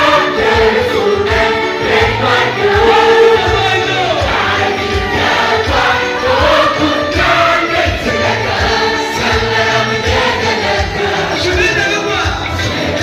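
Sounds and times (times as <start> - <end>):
choir singing gospel music: 0.0 - 13.0.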